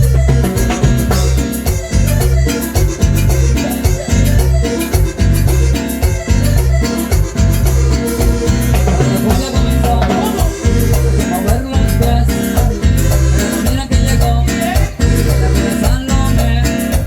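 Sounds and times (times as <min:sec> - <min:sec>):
live dance band playing: 0:00.0 - 0:17.0
pulsing bass line: 0:00.0 - 0:17.0
steady percussion: 0:00.0 - 0:17.0.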